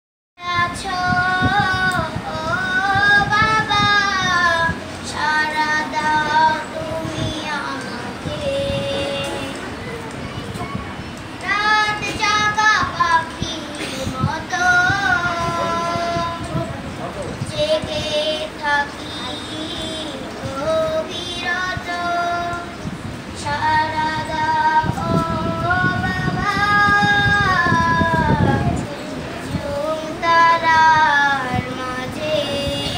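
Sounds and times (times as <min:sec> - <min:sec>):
girl singing unaccompanied: 0:00.4 - 0:32.9.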